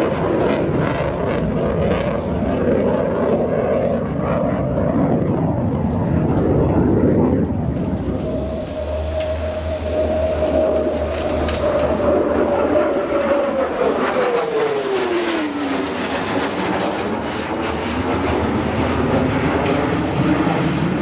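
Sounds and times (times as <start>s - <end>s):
jet engines passing overhead: 0.0s - 21.0s.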